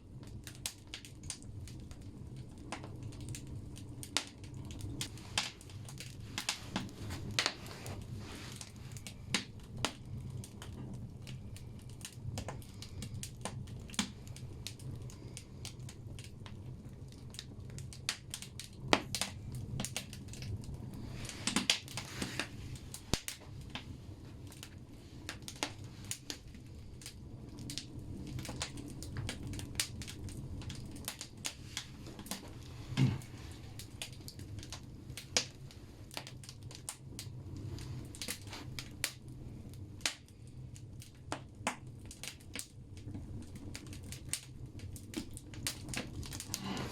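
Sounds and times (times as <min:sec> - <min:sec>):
low rumble of fire: 0:00.0 - 0:46.9
wood fire crackling and popping: 0:00.0 - 0:46.9.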